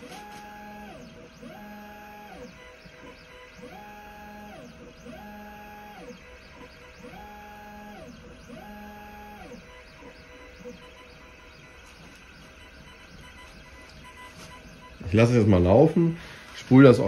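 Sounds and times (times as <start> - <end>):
stepper motor whine: 0.0 - 15.5.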